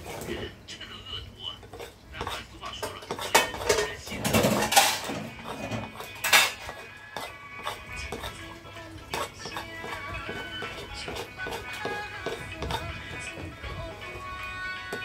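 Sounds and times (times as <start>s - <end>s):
cutlery clinking and scraping dishes: 1.5s - 13.6s.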